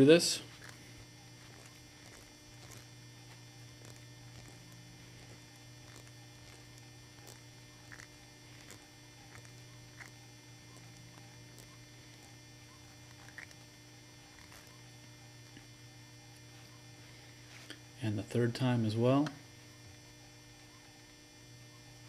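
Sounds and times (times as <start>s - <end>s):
faint mains hum: 0.0s - 22.0s.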